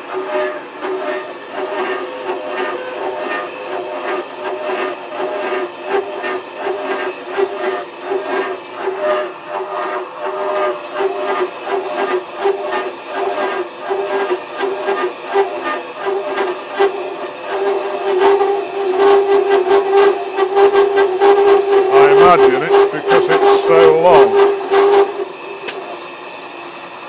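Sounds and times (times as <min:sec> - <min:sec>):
saw cutting metal with shrill chatter: 0:00.0 - 0:26.5.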